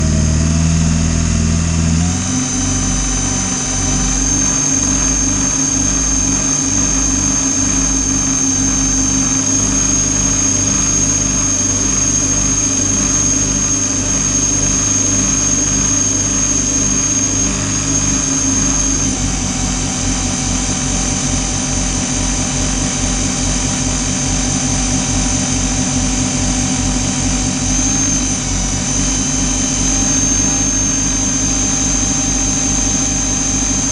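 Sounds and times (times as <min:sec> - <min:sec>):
model boat motors whining: 0:00.0 - 0:21.0, 0:26.9 - 0:33.9.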